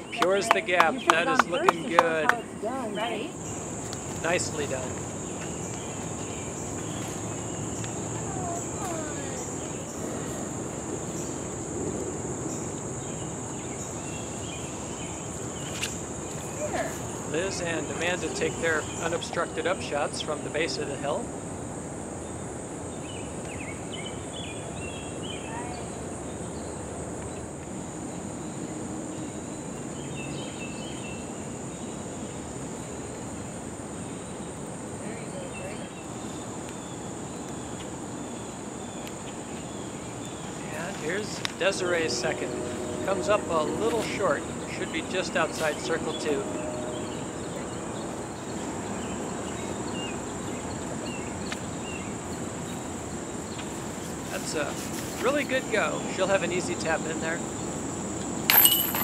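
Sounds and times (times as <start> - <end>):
insect chorus: 0.0 - 59.0
outdoor background noise: 0.0 - 59.0.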